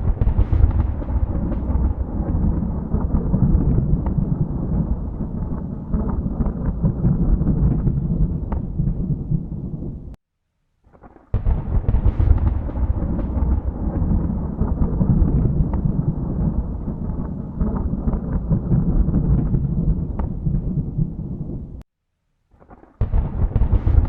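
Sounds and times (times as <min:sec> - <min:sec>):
sharp thunder crack: 0:00.0 - 0:10.2, 0:11.3 - 0:21.8, 0:23.0 - 0:24.0
thunder rumbling: 0:00.0 - 0:10.2, 0:11.3 - 0:21.8, 0:23.0 - 0:24.0.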